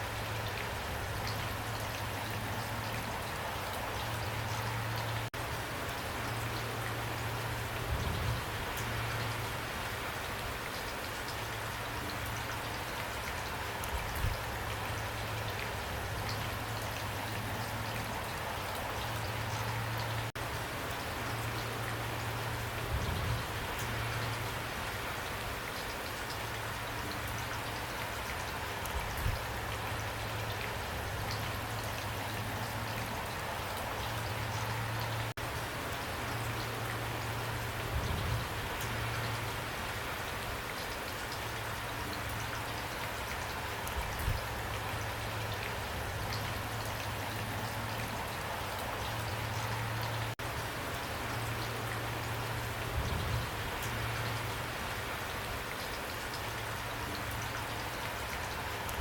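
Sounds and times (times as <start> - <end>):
heavy pouring rain: 0.0 - 59.0.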